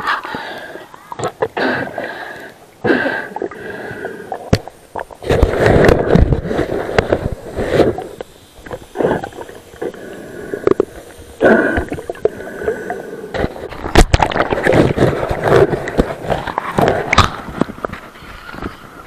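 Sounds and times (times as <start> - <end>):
sea water sloshing and splashing: 0.3 - 18.7.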